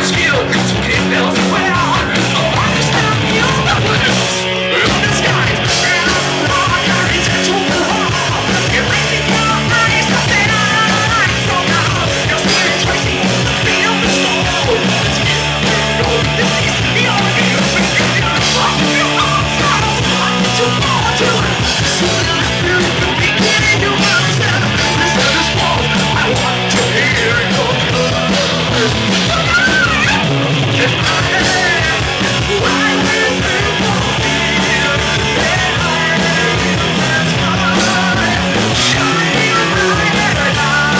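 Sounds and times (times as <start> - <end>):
heavy metal band playing live: 0.0 - 40.9.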